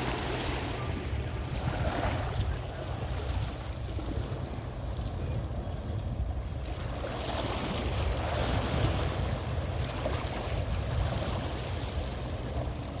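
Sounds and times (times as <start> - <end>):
sea waves washing onto shore: 0.0 - 13.0
wind rumbling on microphone: 0.0 - 13.0.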